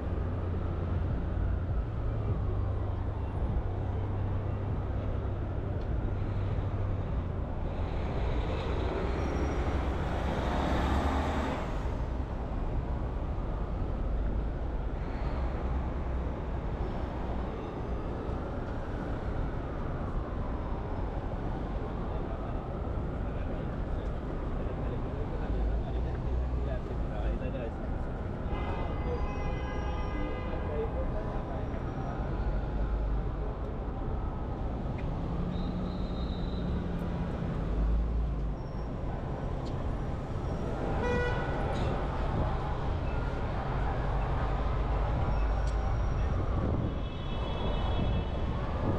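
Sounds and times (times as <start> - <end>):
rumble of passing vehicles: 0.0 - 48.9.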